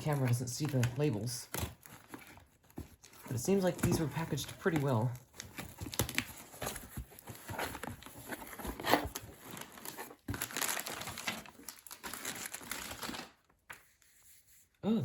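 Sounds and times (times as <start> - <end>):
packing material crinkling: 0.0 - 13.6.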